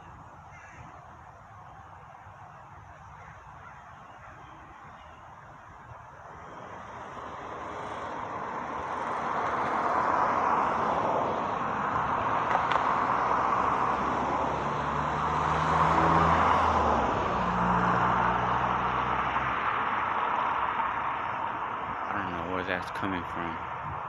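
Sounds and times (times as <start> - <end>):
motor vehicle running: 3.2 - 24.0.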